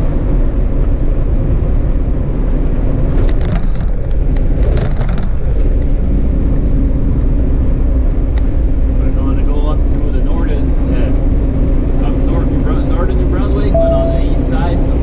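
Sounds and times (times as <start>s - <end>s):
diesel truck engine drone: 0.0s - 15.0s
road and tyre rumble: 0.0s - 15.0s.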